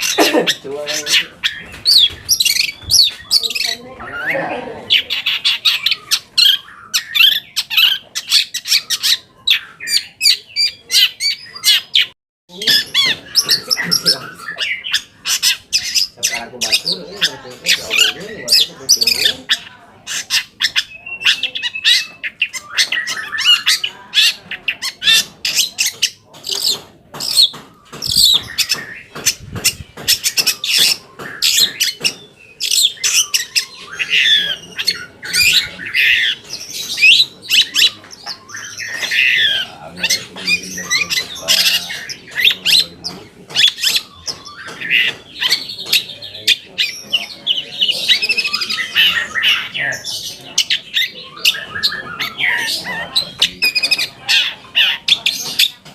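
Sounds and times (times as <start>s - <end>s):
shrike singing scratchy chatter: 0.0s - 55.9s.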